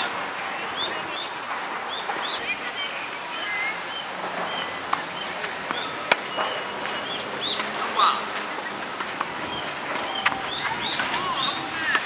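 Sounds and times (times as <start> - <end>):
steady outdoor hiss: 0.0 - 12.0
small birds chirping: 0.7 - 12.0.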